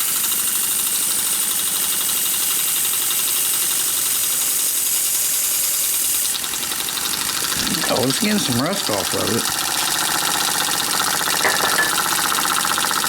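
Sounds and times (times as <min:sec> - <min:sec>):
toy steam engine hissing and ticking: 0:00.0 - 0:13.0.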